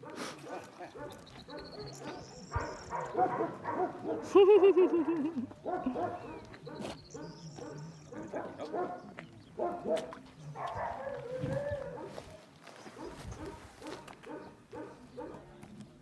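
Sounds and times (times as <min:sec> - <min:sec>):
dogs barking: 0:00.0 - 0:15.5.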